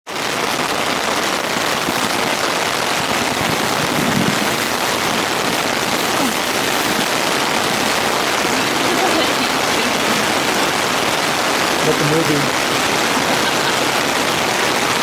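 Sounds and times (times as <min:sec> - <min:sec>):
heavy rain on a tent: 0:00.0 - 0:15.0.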